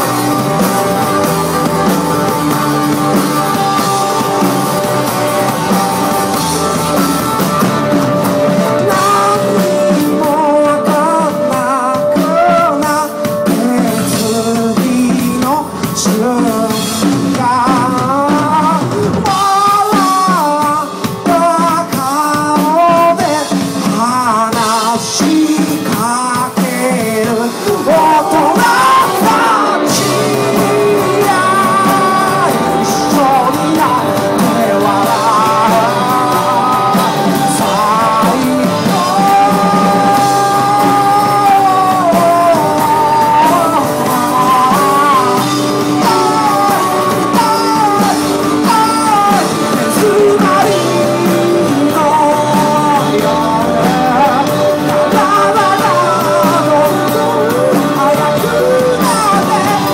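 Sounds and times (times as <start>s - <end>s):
drums: 0.0s - 59.9s
electric guitar: 0.0s - 59.9s
man singing lead: 0.0s - 59.9s.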